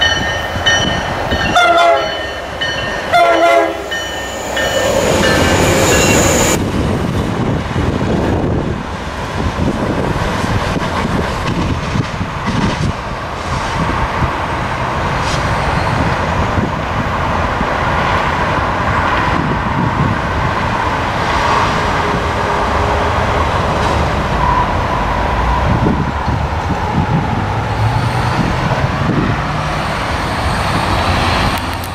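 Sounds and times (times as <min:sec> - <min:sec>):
road traffic noise: 0:00.0 - 0:31.9
train rumbling: 0:00.0 - 0:31.9.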